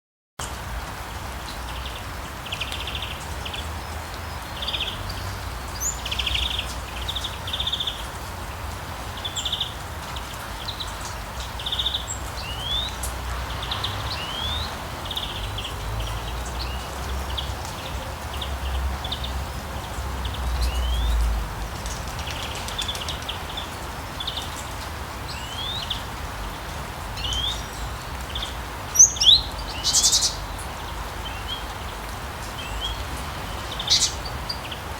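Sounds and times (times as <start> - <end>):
rain falling on street: 0.4 - 34.9
songbirds singing: 1.3 - 34.9.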